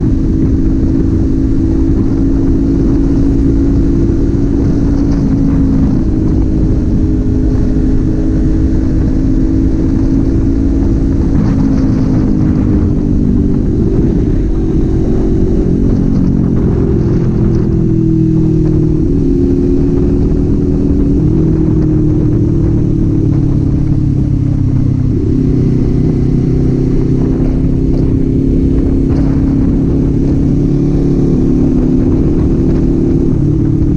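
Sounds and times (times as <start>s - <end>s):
motorcycle engine and exhaust: 0.0s - 33.9s.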